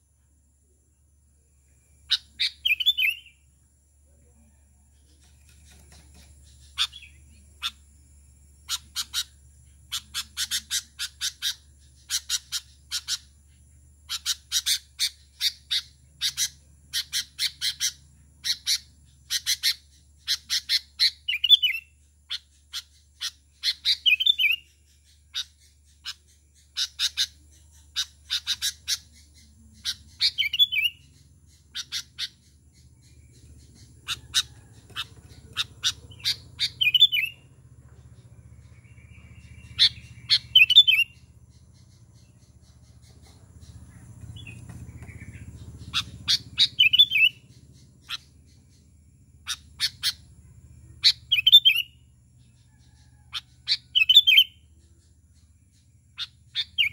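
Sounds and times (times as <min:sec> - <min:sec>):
bulbul chirping and warbling: 0:02.1 - 0:03.4, 0:08.6 - 0:56.9.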